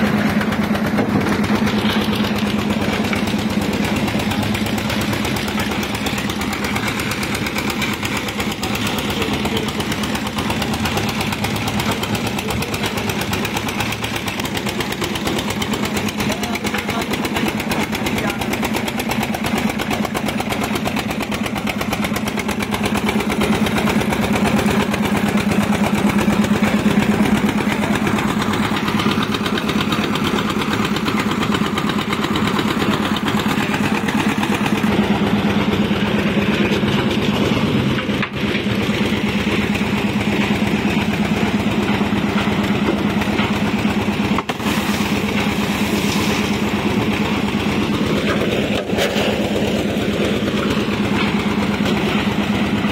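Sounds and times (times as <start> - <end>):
concrete mixer engine droning: 0.0 - 52.9.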